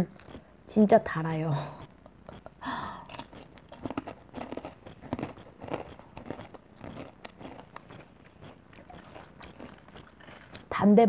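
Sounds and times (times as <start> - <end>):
crunchy chewing of popcorn: 0.0 - 0.5, 1.8 - 10.9.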